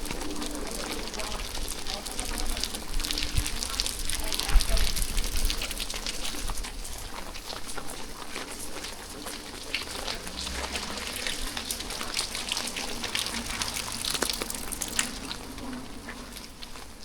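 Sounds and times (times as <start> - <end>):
raindrops ticking close by: 0.0 - 17.0
steady rain hissing: 0.0 - 17.0.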